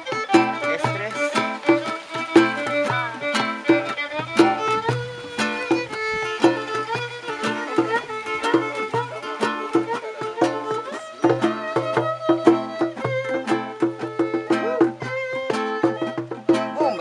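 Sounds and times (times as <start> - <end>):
bowed string melody: 0.0 - 17.0.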